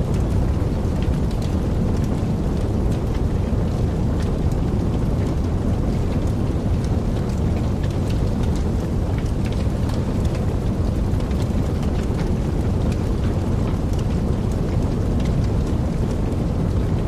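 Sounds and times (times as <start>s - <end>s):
fire pops and crackles: 0.0s - 17.0s
low rumble of flames: 0.0s - 17.0s.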